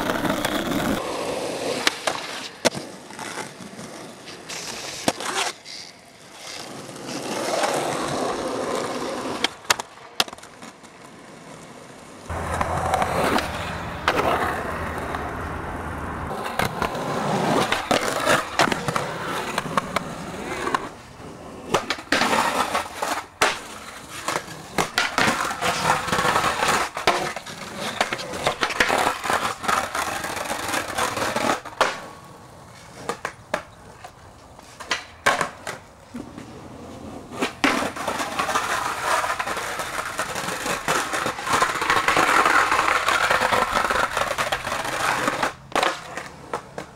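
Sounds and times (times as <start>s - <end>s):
skateboard clacking on ground: 0.0s - 46.9s
skateboard wheels rolling on pavement: 0.0s - 46.9s.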